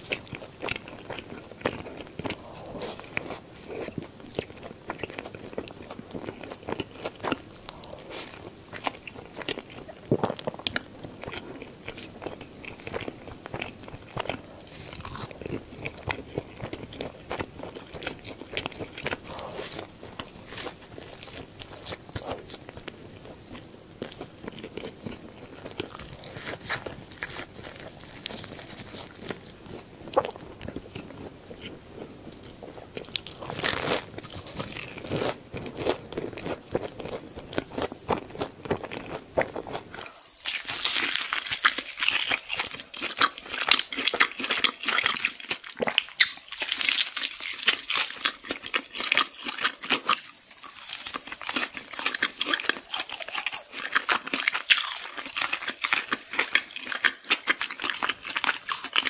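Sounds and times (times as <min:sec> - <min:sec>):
crunchy bites and wet chewing: 0:00.0 - 0:59.0.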